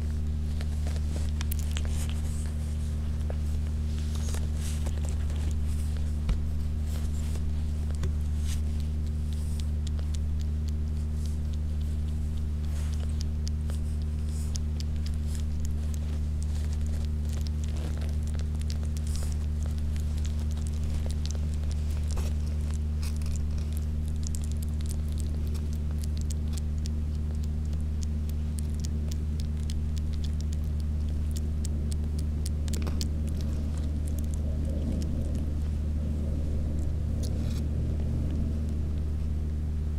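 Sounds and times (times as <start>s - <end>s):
kitten suckling wet clicks: 0.0s - 39.9s
loud steady low hum: 0.0s - 39.9s.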